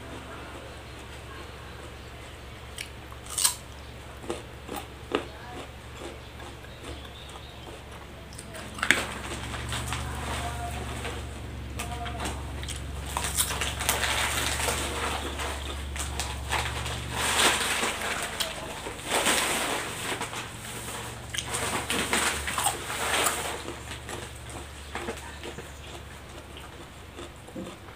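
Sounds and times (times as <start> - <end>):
crunchy chewing: 0.0 - 27.9
low hum: 0.0 - 27.9.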